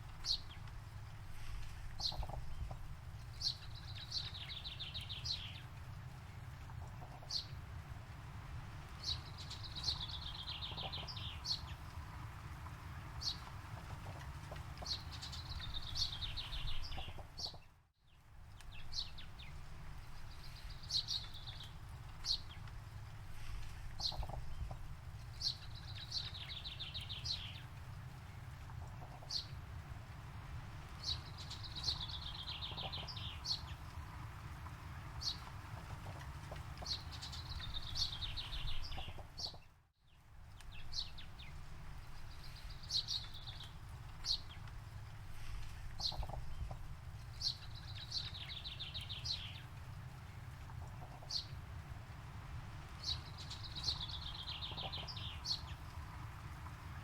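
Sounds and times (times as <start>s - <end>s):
bird song with falling trill: 2.0s - 5.8s, 8.8s - 22.7s, 23.9s - 29.6s, 30.8s - 44.7s, 45.9s - 51.6s, 52.8s - 57.0s.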